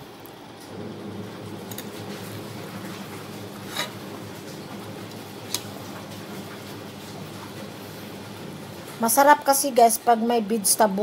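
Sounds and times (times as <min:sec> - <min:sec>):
soup simmering hum: 0:00.0 - 0:09.0.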